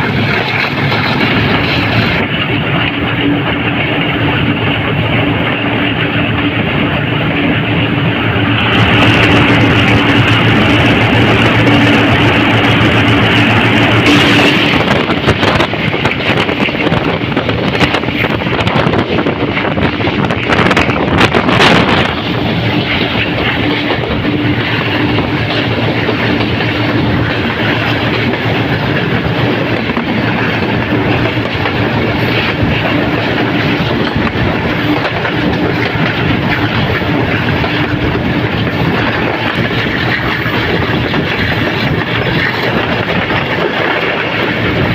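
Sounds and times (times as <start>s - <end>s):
train rumble: 0.0s - 44.9s
train wheels clattering over rails: 0.0s - 44.9s.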